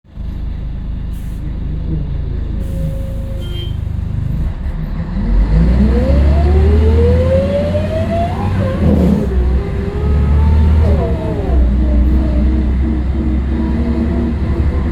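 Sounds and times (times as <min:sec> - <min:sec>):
bus engine accelerating with whine: 0:00.1 - 0:14.9.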